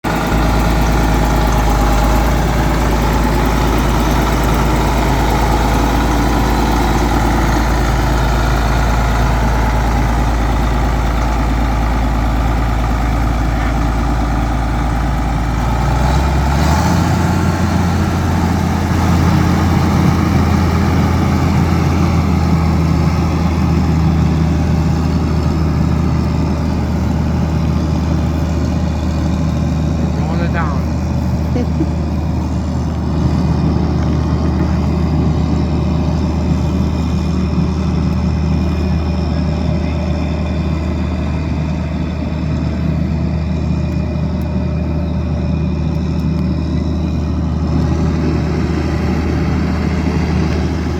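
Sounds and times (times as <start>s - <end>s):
tractor diesel engine: 0.0s - 50.9s.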